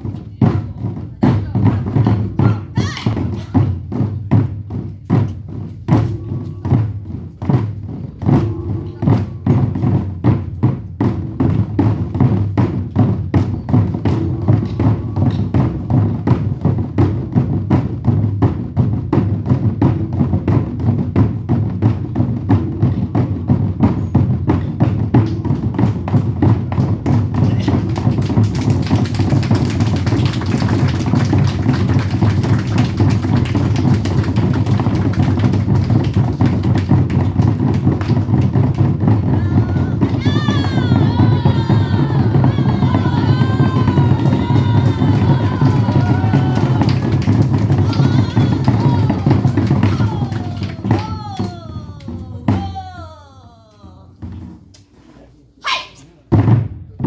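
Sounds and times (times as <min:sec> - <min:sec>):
drum ensemble playing: 0:00.0 - 0:55.0.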